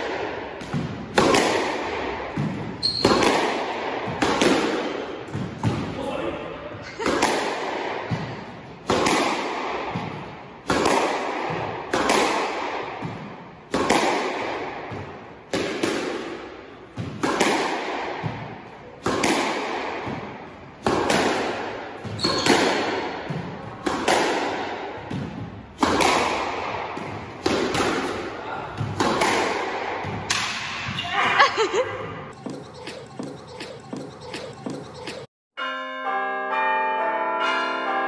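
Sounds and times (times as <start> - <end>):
squash ball hits echoing: 0.0 - 35.3.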